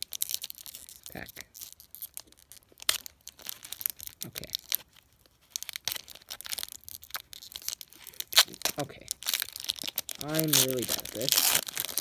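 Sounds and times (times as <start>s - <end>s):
foil pack crinkling and tearing: 0.0s - 12.0s.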